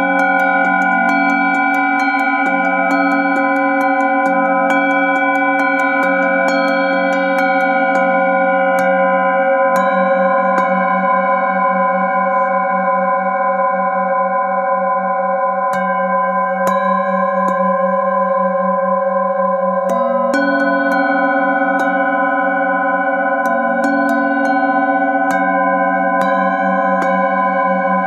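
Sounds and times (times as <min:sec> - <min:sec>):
singing bowls struck with mallet: 0:00.0 - 0:28.0.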